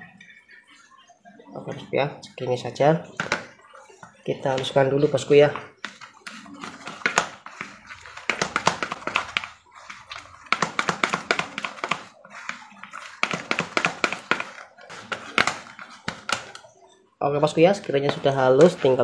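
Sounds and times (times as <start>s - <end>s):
plastic paddle scraping bowl: 2.6s - 19.0s.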